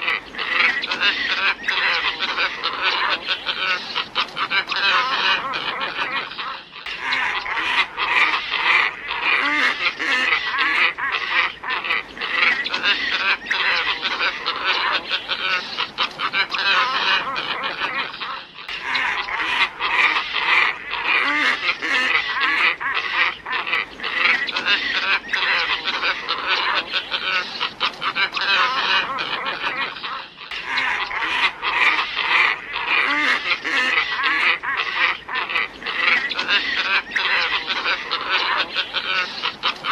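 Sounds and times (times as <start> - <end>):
ibis flock calling: 0.0 - 39.9.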